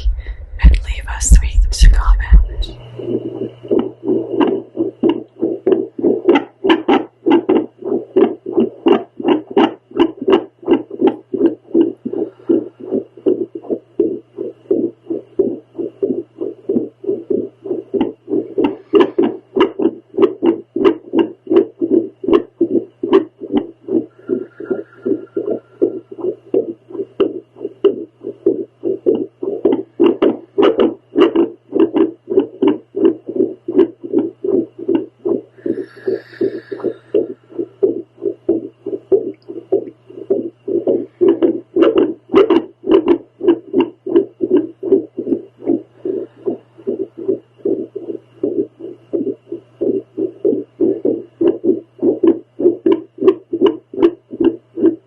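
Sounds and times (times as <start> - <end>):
doppler heartbeat whooshing pulses: 0.0 - 55.0
faint device hum: 0.0 - 55.0.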